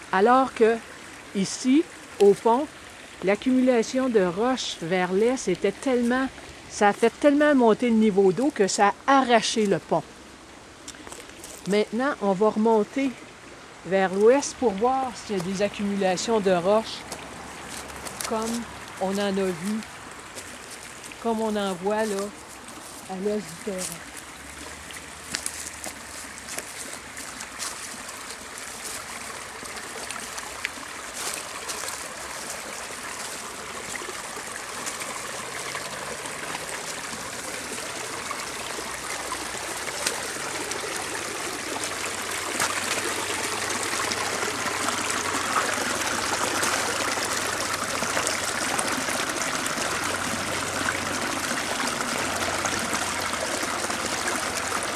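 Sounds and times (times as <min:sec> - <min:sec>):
creek trickling over stones: 0:00.0 - 0:54.9.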